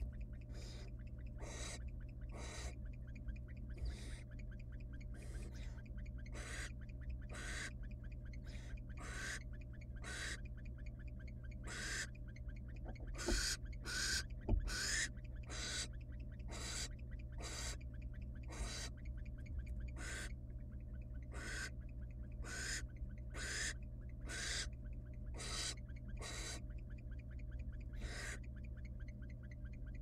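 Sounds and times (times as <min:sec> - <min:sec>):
low electrical hum: 0:00.0 - 0:30.0
owl chicks hissing begging calls: 0:00.0 - 0:30.0.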